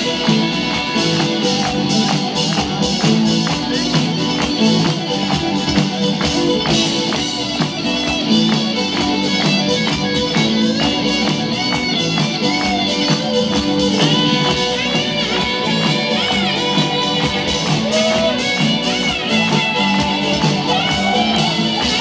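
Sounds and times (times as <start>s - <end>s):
electric guitars: 0.0s - 22.0s
gliding high guitar notes: 0.0s - 22.0s
steady drum beat: 0.0s - 22.0s.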